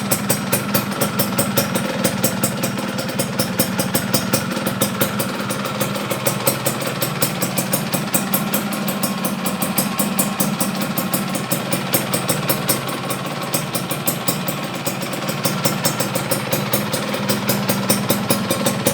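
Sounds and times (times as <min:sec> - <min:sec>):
two-stroke engine idling: 0:00.0 - 0:18.9.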